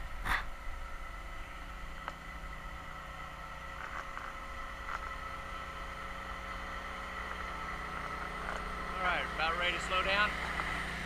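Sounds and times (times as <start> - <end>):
winch motor humming and whining: 0.0 - 11.0.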